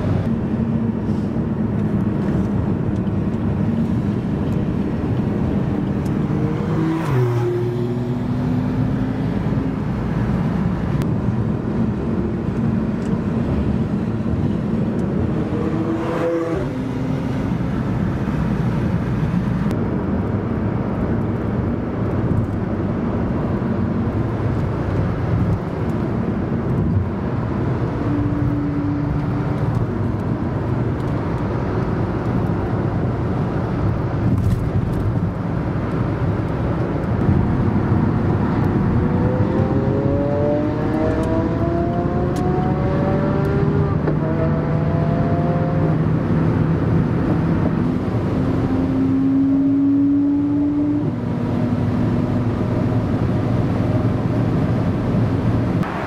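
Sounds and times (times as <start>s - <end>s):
road and wind noise: 0.0s - 56.0s
sports car engines passing: 0.0s - 56.0s.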